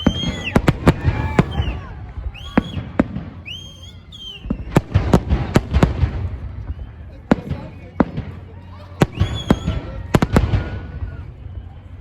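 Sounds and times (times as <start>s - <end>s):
fireworks bangs: 0.0s - 11.7s.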